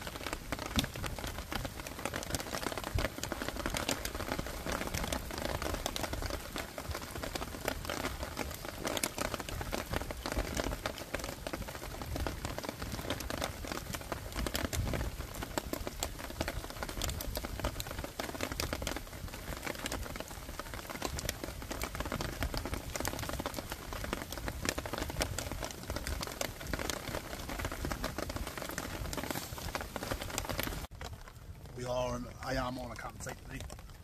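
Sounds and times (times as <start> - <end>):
heavy rain drumming on shelter: 0.0 - 34.0.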